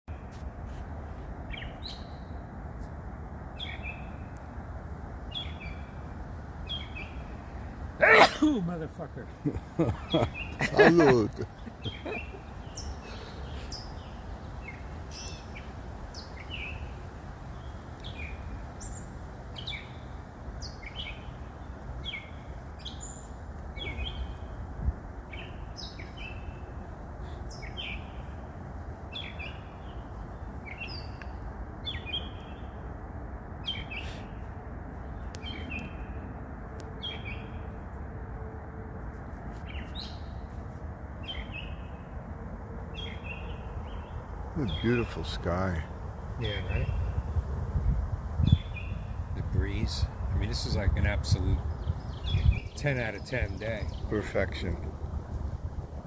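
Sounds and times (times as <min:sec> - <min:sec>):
songbirds chirping and singing: 0:01.2 - 0:02.7, 0:03.3 - 0:37.8, 0:39.6 - 0:40.6, 0:41.2 - 0:55.7.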